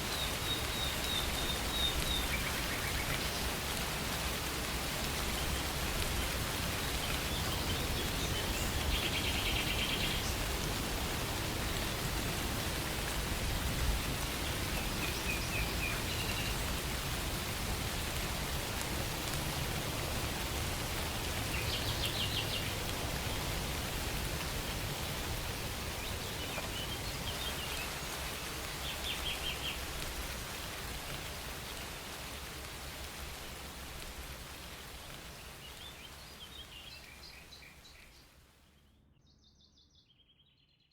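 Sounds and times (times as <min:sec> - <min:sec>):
steady rain falling: 0:00.0 - 0:38.7.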